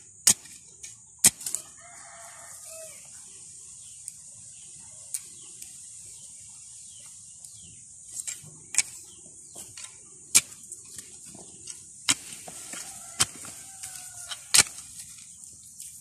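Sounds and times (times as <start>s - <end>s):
hands working soil clicks: 0.0s - 3.0s, 5.0s - 5.9s, 6.9s - 16.0s.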